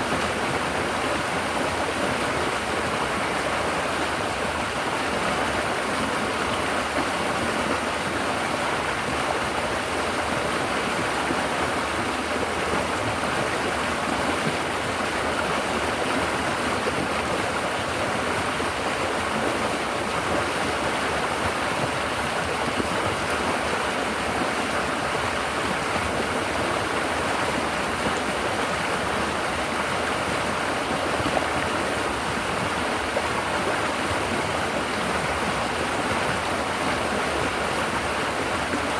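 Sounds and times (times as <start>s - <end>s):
river water babbling over rocks: 0.0s - 38.9s.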